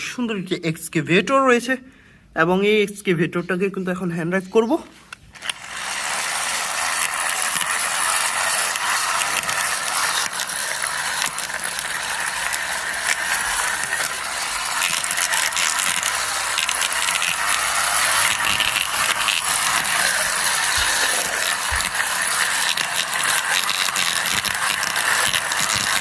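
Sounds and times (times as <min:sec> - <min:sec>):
toy plastic gears clicking: 0:05.1 - 0:26.0.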